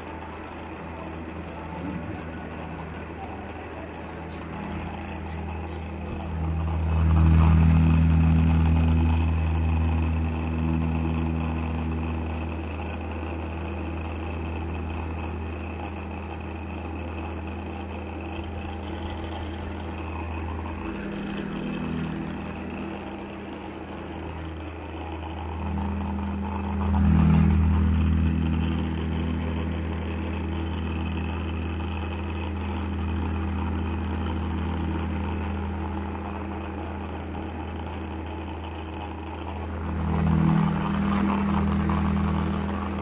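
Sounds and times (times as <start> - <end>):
electric fan running: 0.0 - 43.0.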